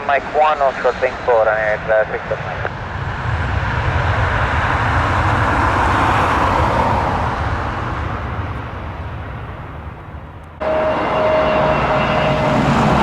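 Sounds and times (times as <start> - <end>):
jet airliner engine roar: 0.0 - 13.0.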